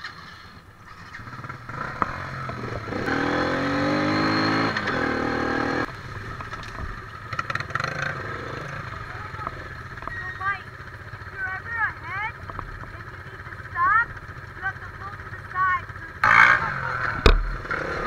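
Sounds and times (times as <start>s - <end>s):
quad engine revving: 0.0s - 5.9s, 7.3s - 10.4s, 12.2s - 18.0s.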